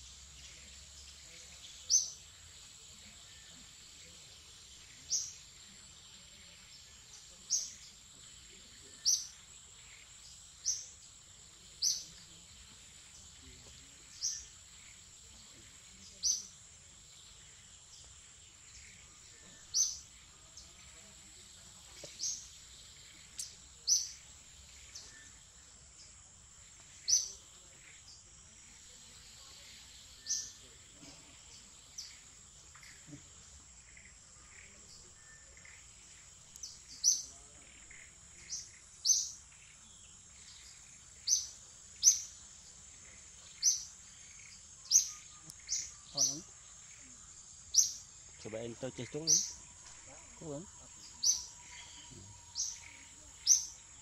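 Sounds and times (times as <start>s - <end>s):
bird chirping: 0.0s - 54.0s
forest ambience hiss: 0.0s - 54.0s.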